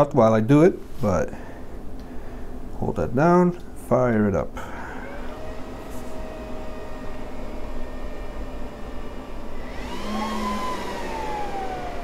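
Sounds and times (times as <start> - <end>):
cooling fans whirring: 0.0 - 12.0
high fan whine: 0.0 - 12.0.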